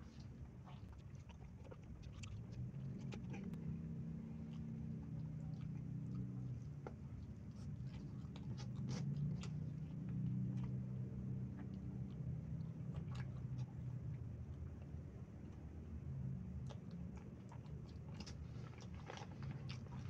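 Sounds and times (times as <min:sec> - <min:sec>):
person chewing crunchy food: 0:00.0 - 0:15.7, 0:16.4 - 0:20.0
steady low hum: 0:00.0 - 0:20.0.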